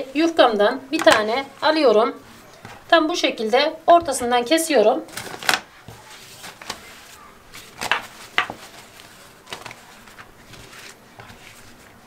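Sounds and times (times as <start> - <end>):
pastry dough rustling and crinkling: 0.0 - 12.0.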